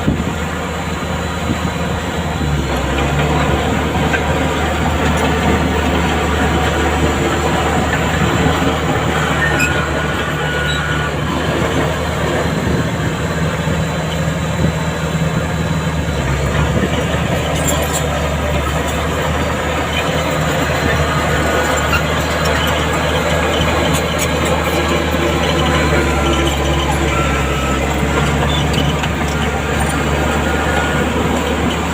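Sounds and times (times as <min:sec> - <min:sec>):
heavy diesel machinery engine drone: 0:00.0 - 0:31.9.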